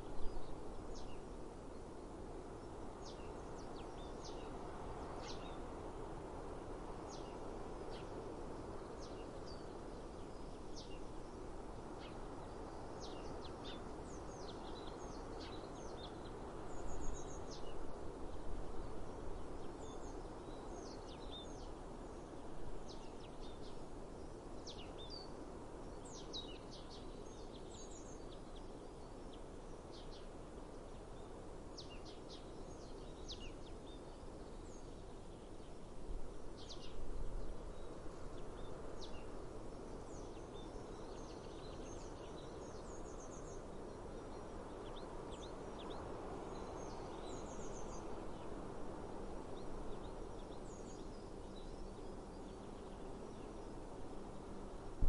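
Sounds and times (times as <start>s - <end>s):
outdoor background hiss: 0.0s - 55.0s
small birds chirping: 0.0s - 55.0s.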